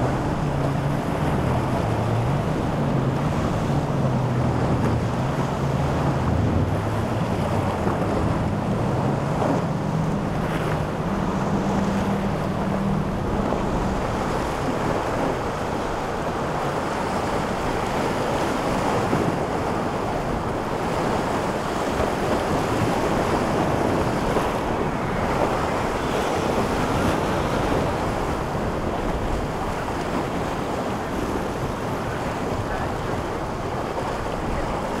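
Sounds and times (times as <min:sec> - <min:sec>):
boat engines droning: 0:00.0 - 0:35.0
surf washing: 0:00.0 - 0:35.0
wind buffeting microphone: 0:00.0 - 0:35.0.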